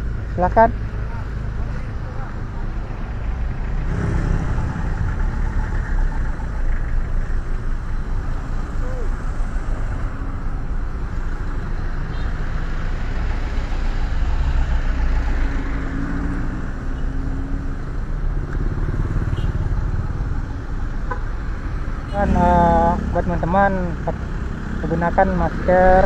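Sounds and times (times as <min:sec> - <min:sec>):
vehicles driving past: 0:00.0 - 0:26.0.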